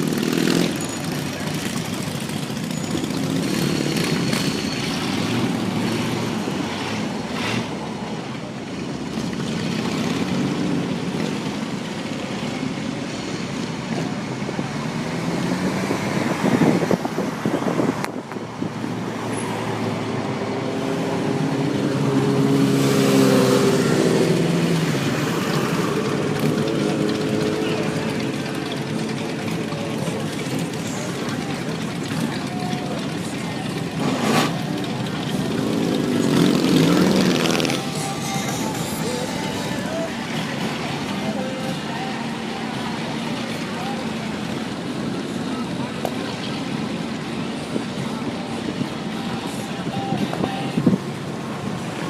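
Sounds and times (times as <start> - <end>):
car engines revving and passing: 0.0 - 52.0.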